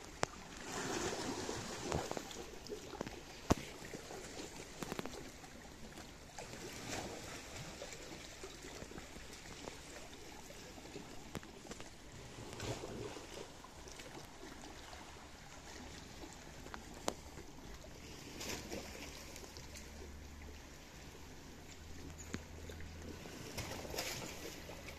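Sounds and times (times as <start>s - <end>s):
small splashes: 0.0s - 24.9s
water lapping against rocks: 0.0s - 24.9s.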